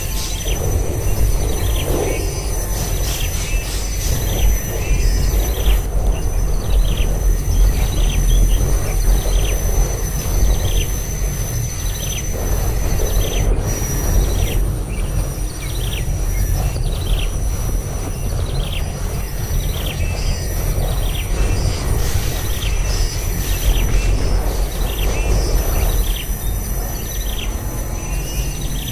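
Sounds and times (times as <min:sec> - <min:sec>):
heavy low rumble: 0:00.0 - 0:28.9
steady high-pitched whine: 0:00.0 - 0:28.9.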